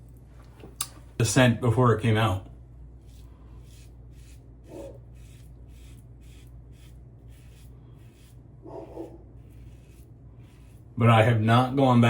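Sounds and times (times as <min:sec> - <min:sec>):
razor scraping stubble: 0:02.0 - 0:12.0.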